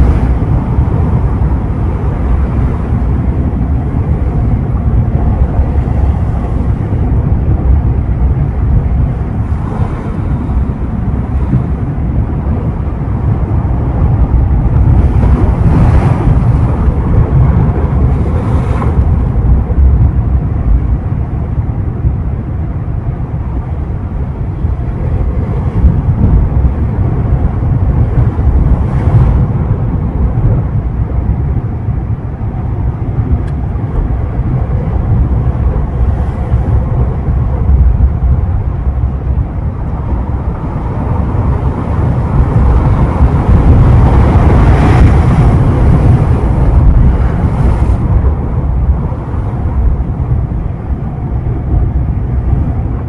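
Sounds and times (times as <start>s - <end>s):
ocean surf breaking on shore: 0.0s - 53.0s
wind rumble on microphone: 0.0s - 53.0s.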